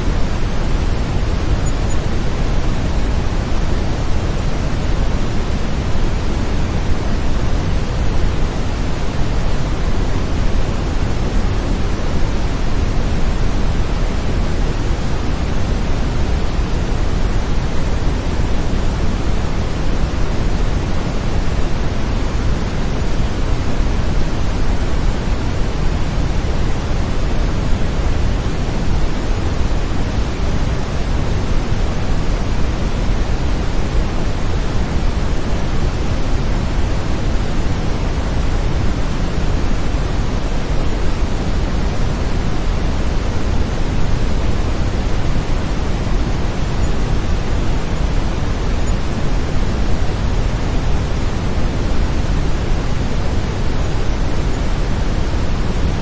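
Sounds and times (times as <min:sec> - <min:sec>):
brown noise: 0:00.0 - 0:56.0.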